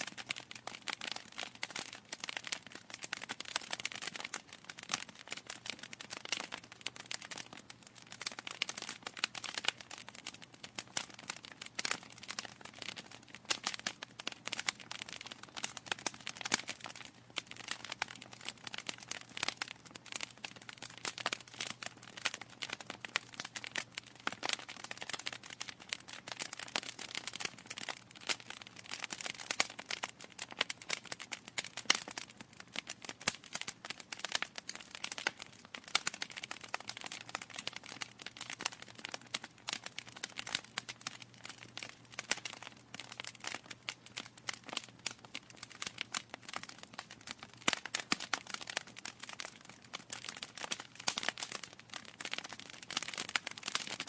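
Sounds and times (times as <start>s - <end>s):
burning logs crackling and popping: 0.0s - 54.0s.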